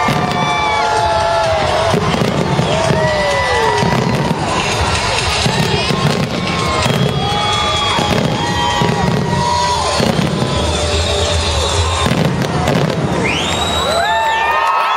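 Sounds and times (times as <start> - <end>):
fireworks bangs and crackling: 0.0 - 14.3
fireworks whistles: 0.0 - 14.5.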